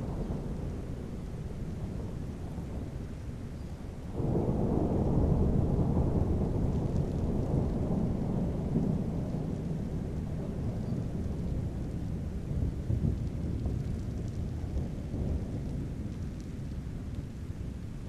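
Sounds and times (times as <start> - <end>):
rain: 0.0 - 18.0
thunder rumbling: 0.0 - 18.0.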